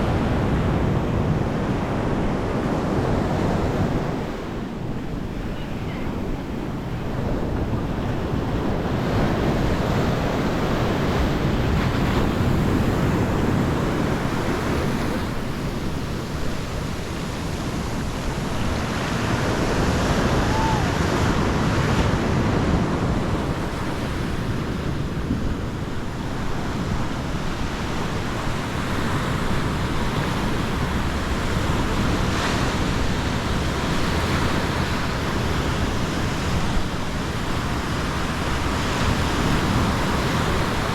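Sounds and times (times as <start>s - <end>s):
waves breaking on beach: 0.0s - 40.9s
wind buffeting microphone: 0.0s - 40.9s.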